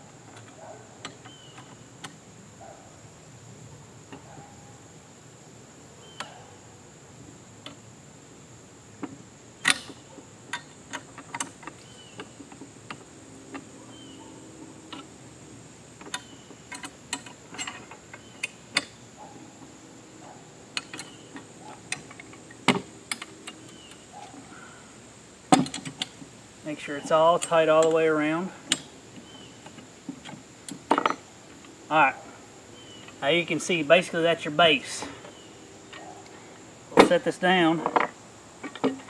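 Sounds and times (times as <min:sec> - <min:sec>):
high insect buzz: 0:00.0 - 0:39.0.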